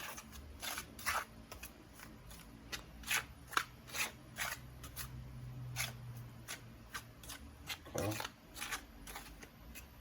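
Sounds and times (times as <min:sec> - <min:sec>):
dry flour stirred in a bowl: 0:00.0 - 0:10.0.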